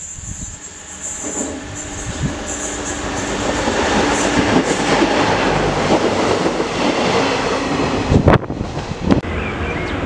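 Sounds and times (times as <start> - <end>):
electric train passing: 0.0 - 10.0
train wheels clattering on rails: 1.2 - 9.2.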